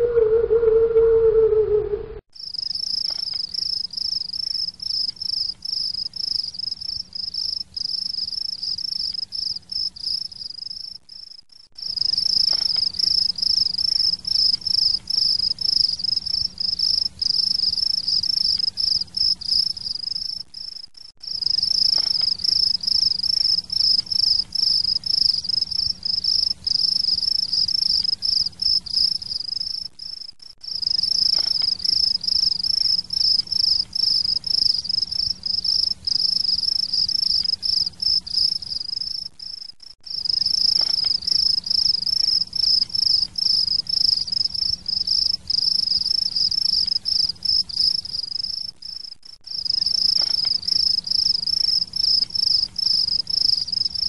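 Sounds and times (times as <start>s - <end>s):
insects trilling: 2.4s - 54.0s.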